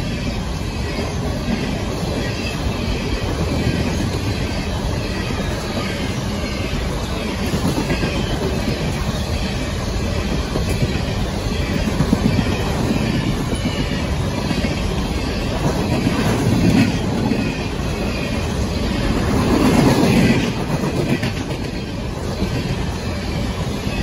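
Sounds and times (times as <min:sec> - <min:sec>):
freight train wheels rumbling: 0:00.0 - 0:24.0
wheels clickety-clack over joints: 0:01.3 - 0:24.0.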